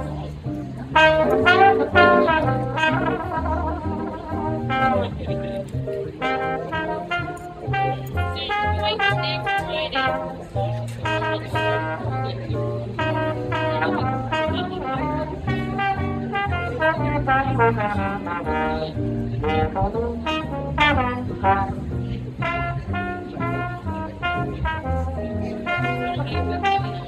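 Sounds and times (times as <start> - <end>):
trombone playing jazz melody: 0.0 - 27.0
walking double bass: 0.0 - 27.0.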